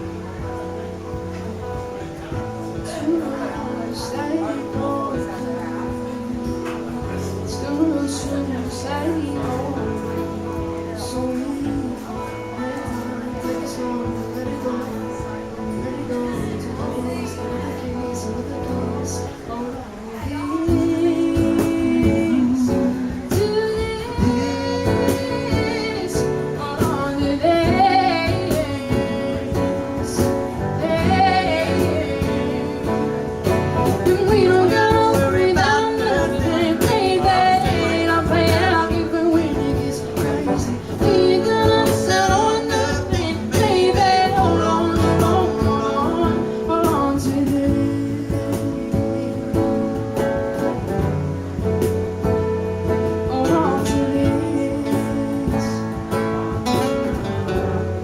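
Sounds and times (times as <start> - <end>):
cajon beat: 0.0 - 58.0
strummed acoustic guitar: 0.0 - 58.0
person singing: 2.3 - 58.0.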